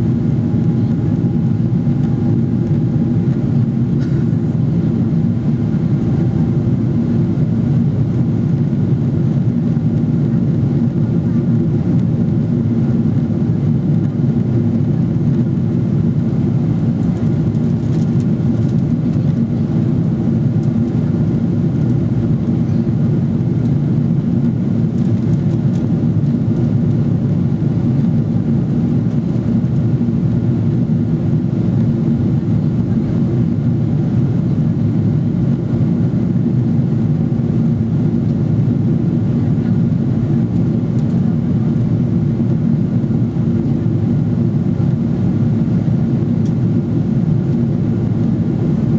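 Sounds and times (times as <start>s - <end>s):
jet engines and airflow rumbling: 0.0s - 48.9s.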